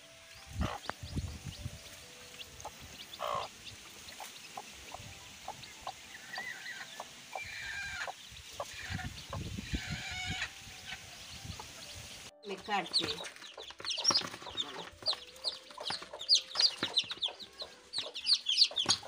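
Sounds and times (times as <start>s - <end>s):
chicks peeping: 0.0s - 19.0s
hen clucking: 0.6s - 11.9s, 12.5s - 19.0s.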